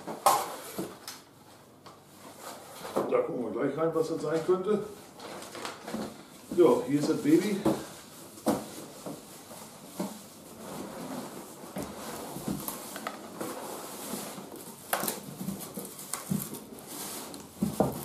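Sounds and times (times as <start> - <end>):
cardboard rustling and scraping: 0.0 - 3.1, 4.3 - 18.0.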